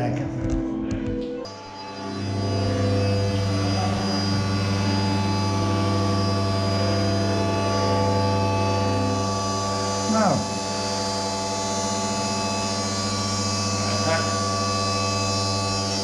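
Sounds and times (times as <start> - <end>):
electric motor hum: 0.0 - 16.0.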